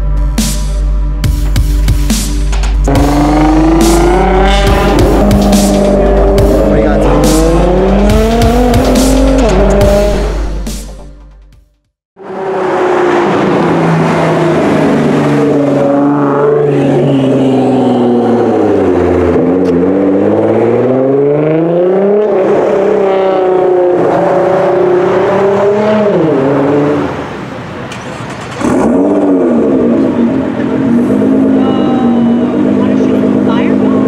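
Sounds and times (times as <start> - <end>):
car engine revving: 1.4 - 11.0, 12.2 - 34.0.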